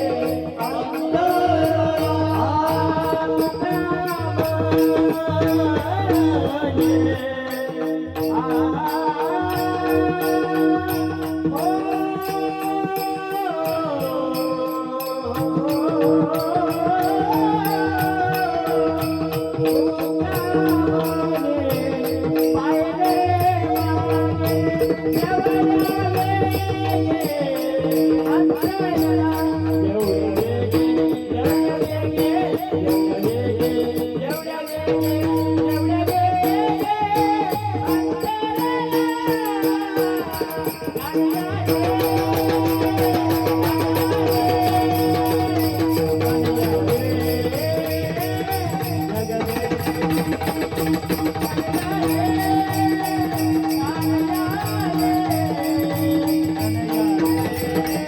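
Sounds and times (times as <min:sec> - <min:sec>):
fast high ticking percussion: 0:00.0 - 0:58.0
person singing: 0:00.0 - 0:58.0.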